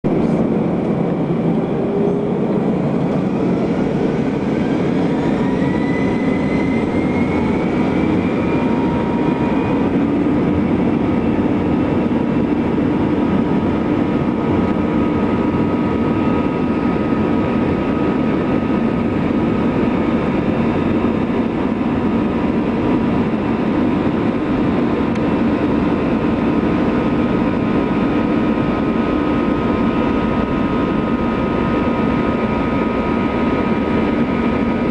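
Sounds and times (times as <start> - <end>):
jet engines spooling up: 0.1 - 34.9.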